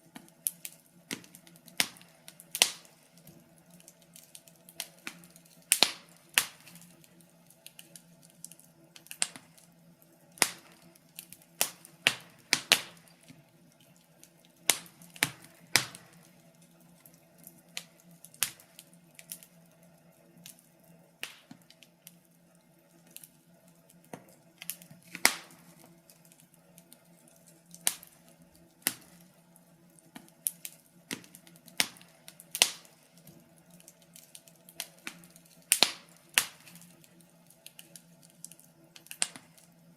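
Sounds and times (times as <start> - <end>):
low steady hum: 0.0 - 39.9
wood fire crackling: 0.0 - 39.9.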